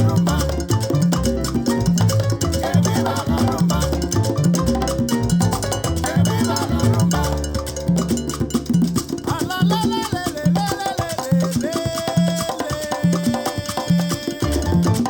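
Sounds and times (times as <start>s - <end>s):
cowbell: 0.0s - 15.0s
latin dance music: 0.0s - 15.0s.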